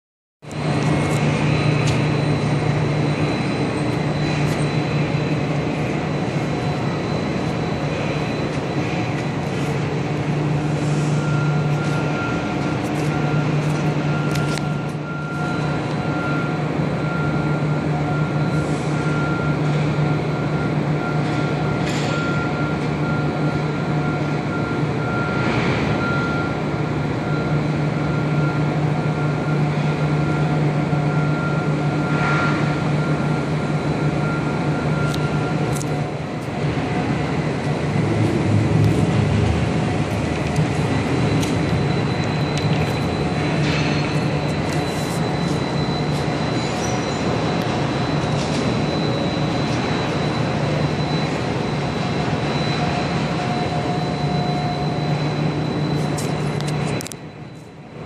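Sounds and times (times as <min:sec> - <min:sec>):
low machinery hum: 0:00.4 - 0:58.0
thin steady whine: 0:00.4 - 0:58.0.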